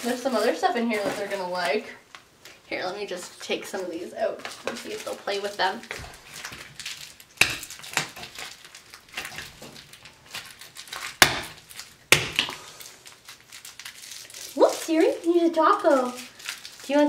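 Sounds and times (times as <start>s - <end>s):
tissue paper and toys rustling: 0.0s - 17.0s.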